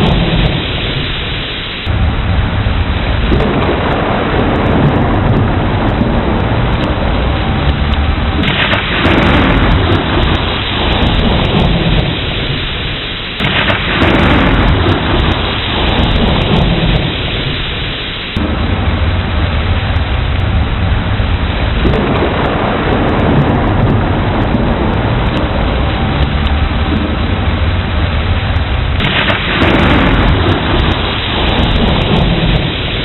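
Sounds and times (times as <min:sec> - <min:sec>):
heavy rain: 0:00.0 - 0:33.0
thunder crack and rumble: 0:00.0 - 0:33.0.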